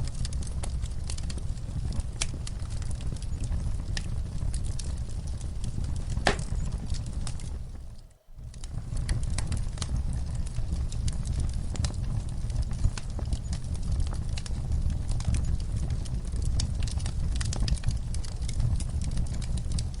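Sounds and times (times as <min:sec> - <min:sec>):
low rumble of flames: 0:00.0 - 0:20.0
wood fire crackling and popping: 0:00.0 - 0:20.0.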